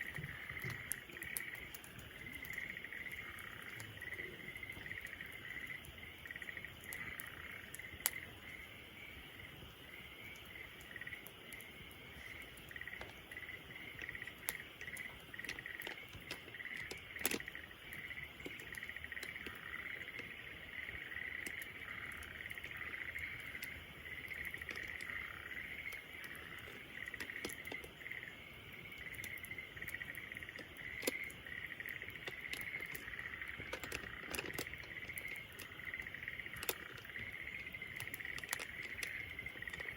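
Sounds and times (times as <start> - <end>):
bonfire crackling and popping: 0.0 - 39.9
insects chirring: 0.0 - 39.9.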